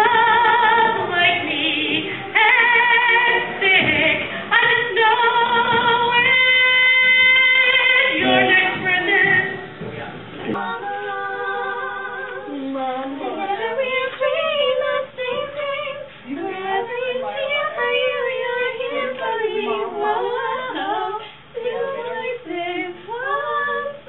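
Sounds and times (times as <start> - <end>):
young women singing: 0.0 - 9.8, 10.5 - 24.0.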